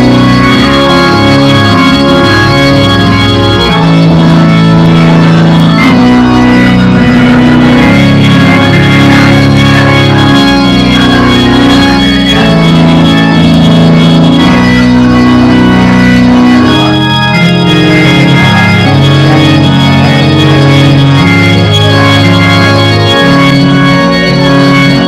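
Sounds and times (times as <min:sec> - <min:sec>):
organ playing slow chords: 0:00.0 - 0:25.0.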